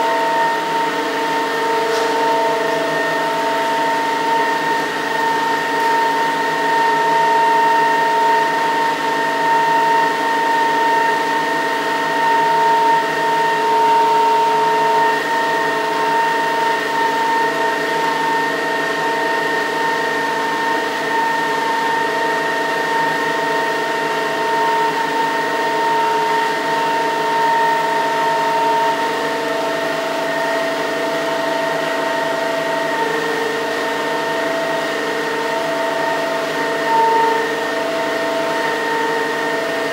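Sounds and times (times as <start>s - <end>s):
generator whining tones: 0.0s - 39.9s.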